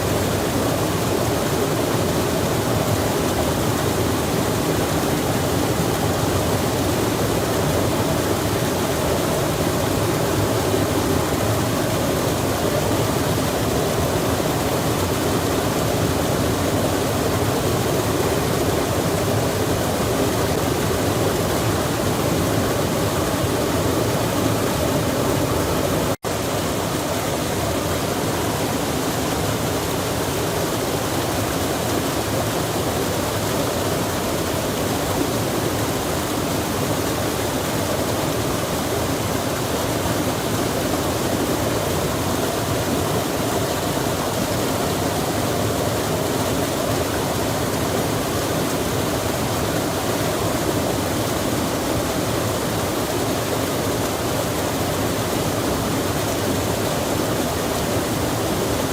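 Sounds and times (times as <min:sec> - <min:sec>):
rain falling: 0:00.0 - 0:58.9
stream rushing water: 0:00.0 - 0:58.9.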